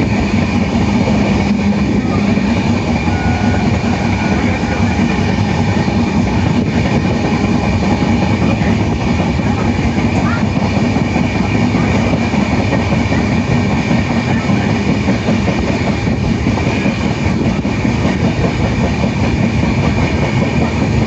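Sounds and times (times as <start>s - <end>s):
train wheels on rail: 0.0s - 21.0s.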